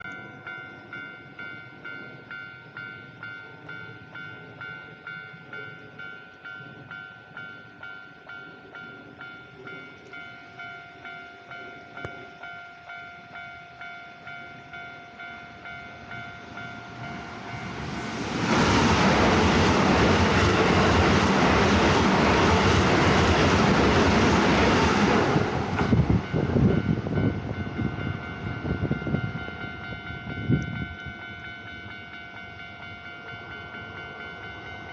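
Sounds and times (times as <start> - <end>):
level-crossing warning bell: 0.0 - 34.9
electric train passing: 0.2 - 34.9.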